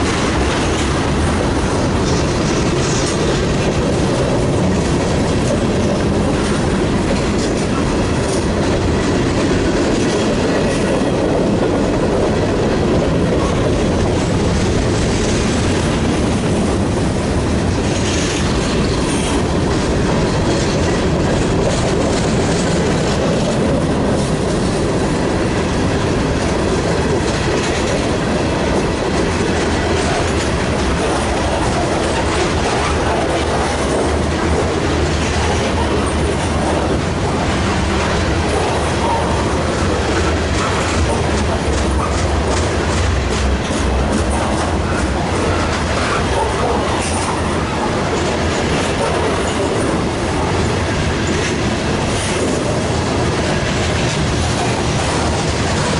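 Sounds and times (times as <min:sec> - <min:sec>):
freight train cars rolling: 0:00.0 - 0:55.9
wheels clacking over rail joints: 0:00.0 - 0:55.9.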